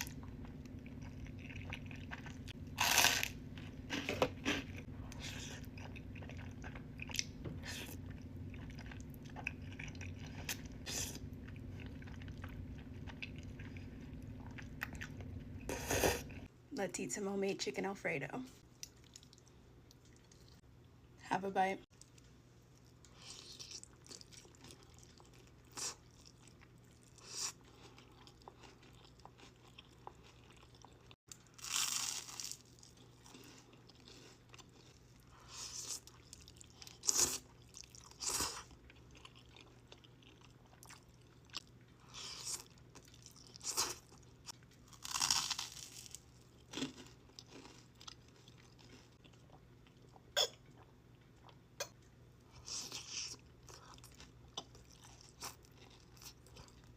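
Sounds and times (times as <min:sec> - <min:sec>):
person chewing and crunching: 0:00.0 - 0:16.5, 0:22.0 - 0:56.9
faint steady hum: 0:00.0 - 0:56.9.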